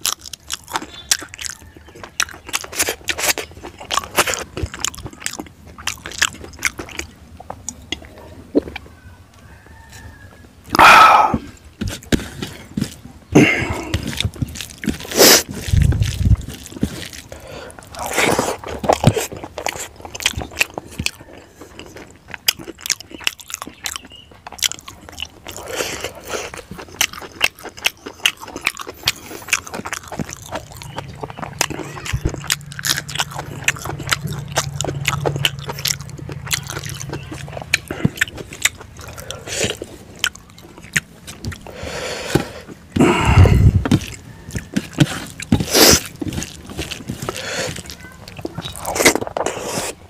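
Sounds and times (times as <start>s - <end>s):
chewing and lip-smacking: 0.0s - 9.0s, 9.6s - 50.0s.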